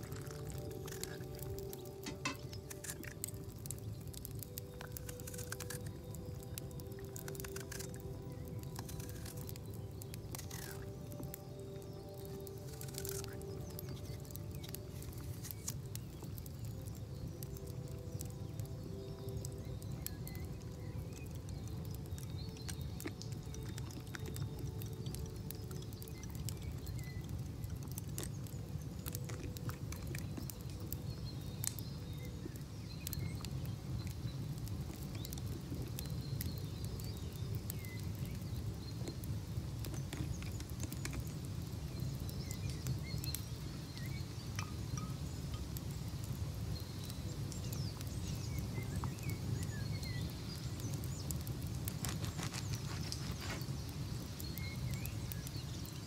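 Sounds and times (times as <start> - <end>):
log fire crackling: 0.0 - 56.0.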